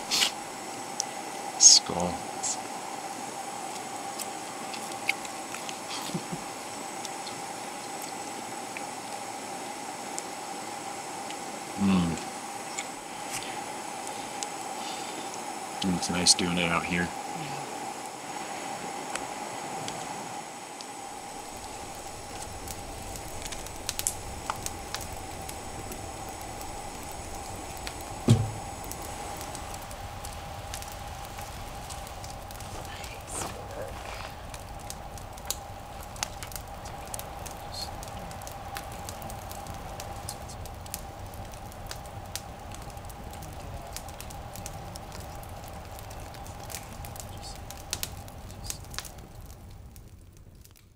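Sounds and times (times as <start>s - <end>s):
camping lantern hissing: 0.0s - 50.9s
steady faint tone: 0.4s - 50.2s.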